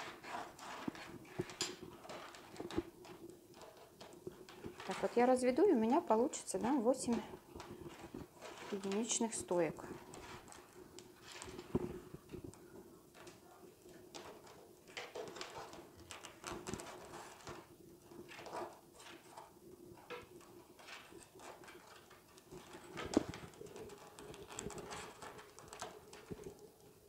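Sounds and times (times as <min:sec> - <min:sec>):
paper tubes clicking and rustling: 0:00.0 - 0:27.0.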